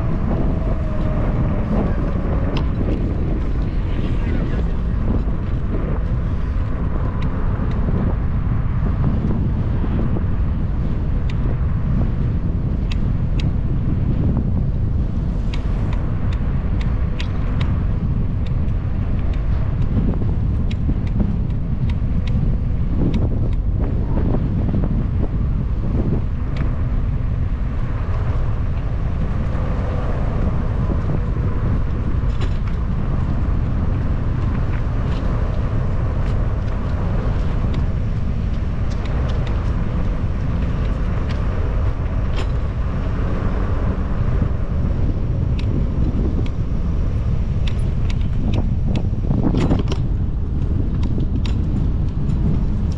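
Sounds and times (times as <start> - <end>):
bicycle tyre noise: 0.0 - 52.9
wind noise on microphone: 0.0 - 52.9.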